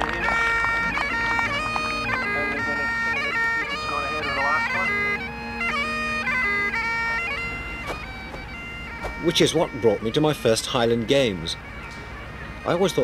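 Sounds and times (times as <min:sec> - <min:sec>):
bagpipe chanter melody: 0:00.0 - 0:13.0
bagpipe drones: 0:00.0 - 0:13.0.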